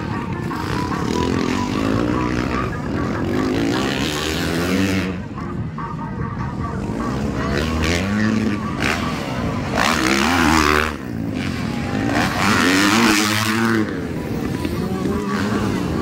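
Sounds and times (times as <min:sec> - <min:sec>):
motocross engines revving: 0:00.0 - 0:05.4, 0:06.6 - 0:16.0.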